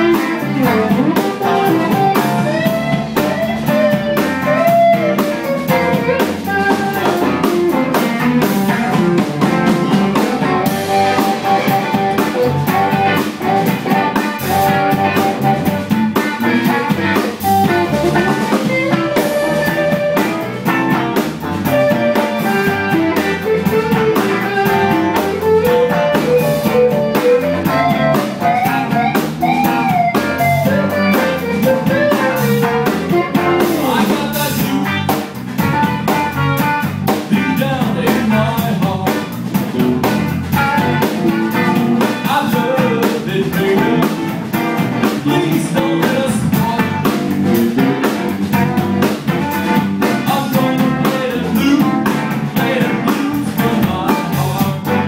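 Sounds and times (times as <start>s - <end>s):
drum kit groove: 0.0s - 55.0s
electric guitar lead: 0.0s - 55.0s
rhythm guitar: 0.0s - 55.0s.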